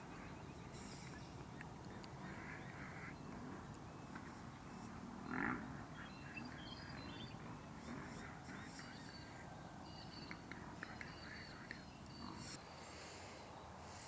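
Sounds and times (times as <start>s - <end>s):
low outdoor background: 0.0s - 14.0s.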